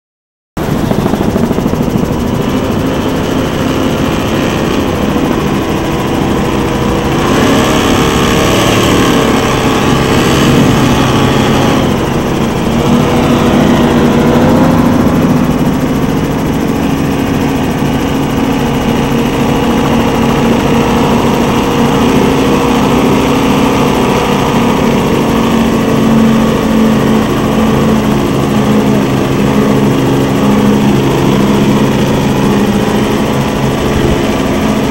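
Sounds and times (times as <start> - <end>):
powerboat engines running at speed: 0.6 - 34.9.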